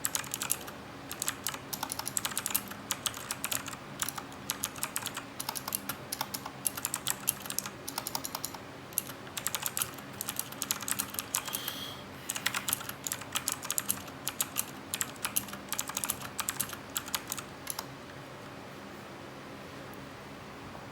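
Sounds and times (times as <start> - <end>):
mechanical keyboard clicks: 0.0 - 11.6, 12.3 - 17.9.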